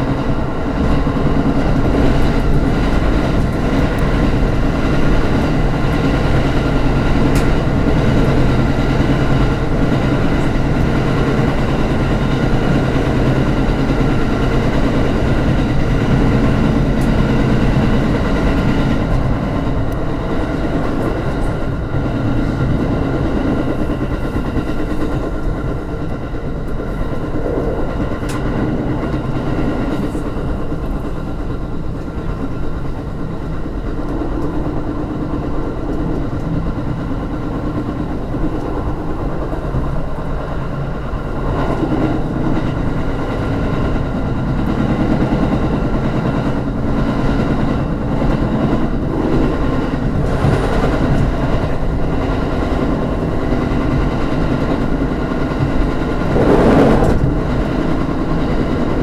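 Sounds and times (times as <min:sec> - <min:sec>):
train wheels on rail: 0:00.0 - 0:59.0.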